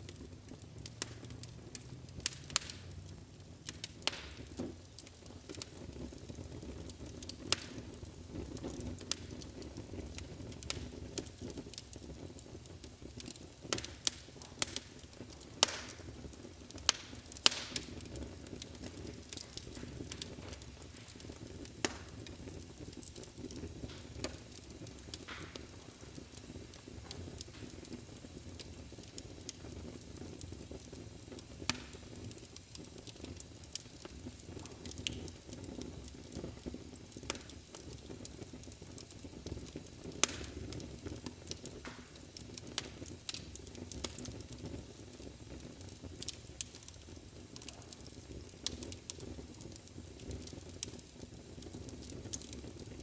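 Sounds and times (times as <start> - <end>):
fire crackles: 0.0 - 53.0
low rush of flame: 0.0 - 53.0
sharp fire pops: 0.0 - 53.0.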